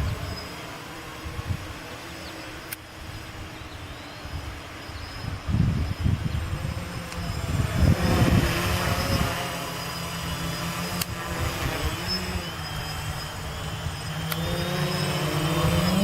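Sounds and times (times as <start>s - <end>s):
wind rumbling on microphone: 0.0s - 2.0s, 3.0s - 16.0s
quadcopter motors whining: 0.0s - 16.0s.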